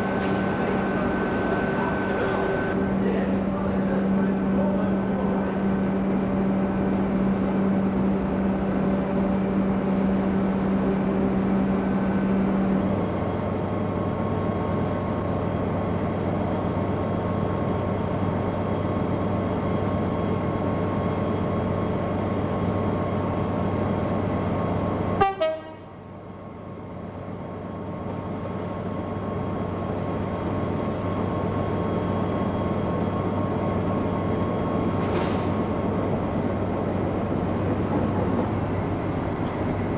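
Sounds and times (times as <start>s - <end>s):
locomotive drone: 0.0s - 39.9s.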